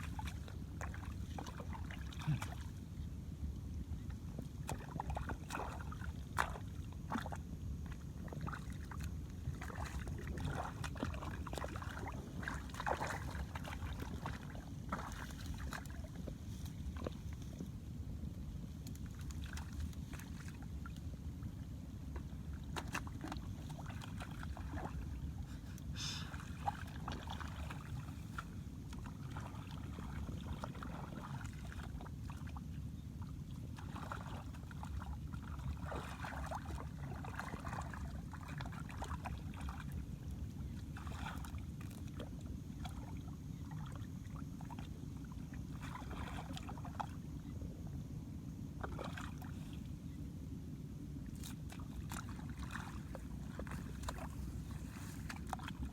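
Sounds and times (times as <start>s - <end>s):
wind rumble on microphone: 0.0s - 25.8s, 26.4s - 55.9s
water sloshing and splashing: 0.0s - 47.9s, 48.7s - 50.1s, 51.2s - 55.9s.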